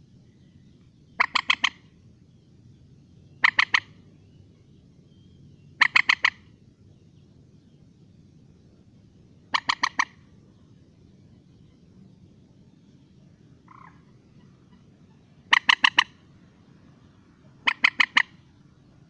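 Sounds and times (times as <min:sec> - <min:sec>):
moorhen calling: 0:00.0 - 0:02.1, 0:03.2 - 0:07.2, 0:09.4 - 0:19.0
faint low rumble: 0:00.0 - 0:19.0.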